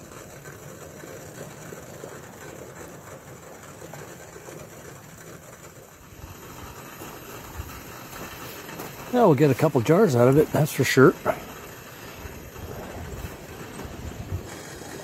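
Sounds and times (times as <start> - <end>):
gas burner hissing: 0.0 - 15.0
syrup bubbling at a rolling boil: 0.0 - 15.0.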